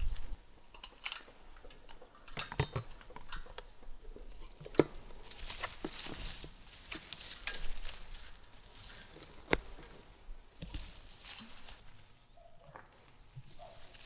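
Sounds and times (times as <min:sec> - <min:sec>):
handling clicks and rustling: 0:00.0 - 0:14.0.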